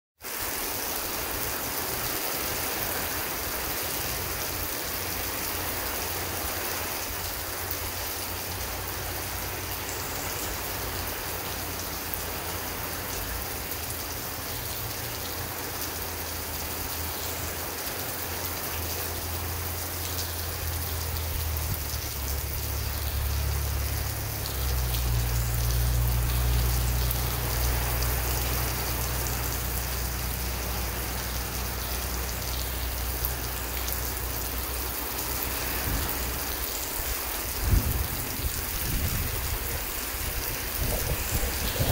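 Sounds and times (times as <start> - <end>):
heavy rain falling: 0.2 - 41.9.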